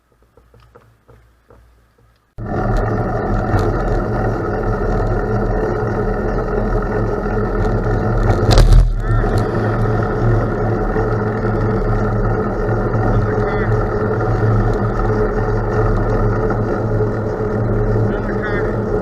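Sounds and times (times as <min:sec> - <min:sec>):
tyres rolling over gravel: 0:02.4 - 0:19.0.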